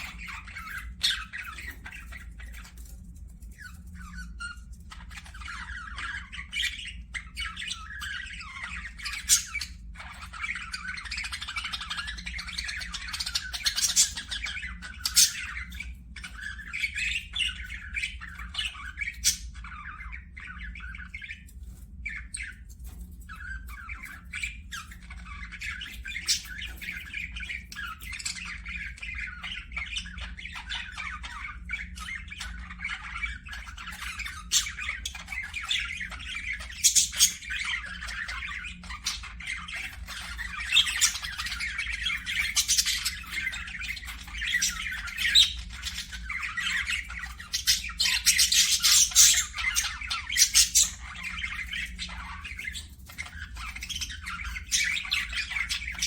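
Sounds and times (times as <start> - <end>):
parakeets chattering and squawking: 0.0 - 56.0.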